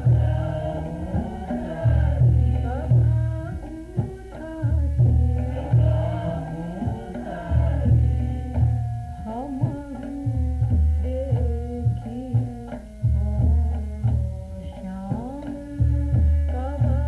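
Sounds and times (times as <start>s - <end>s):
hand drums beating: 0.0s - 17.0s
sustained melodic instrument tones: 0.0s - 17.0s.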